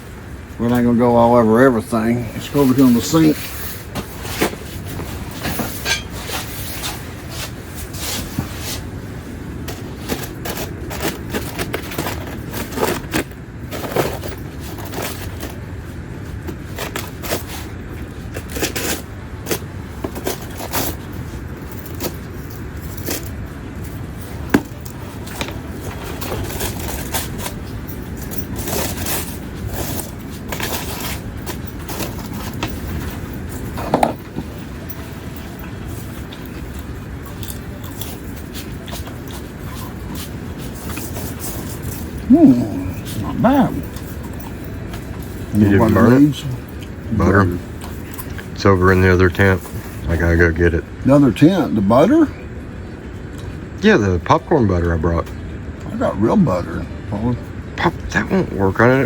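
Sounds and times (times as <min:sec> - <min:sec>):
foil scraping and crinkling: 0:01.9 - 0:50.4.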